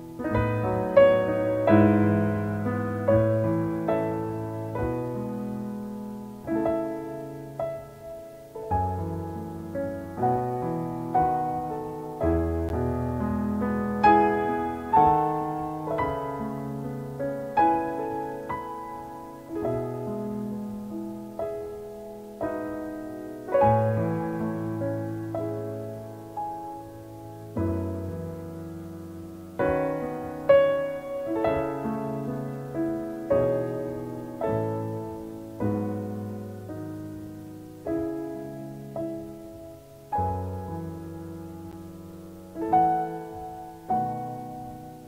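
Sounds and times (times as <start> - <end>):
slow piano chords: 0.0 - 45.0.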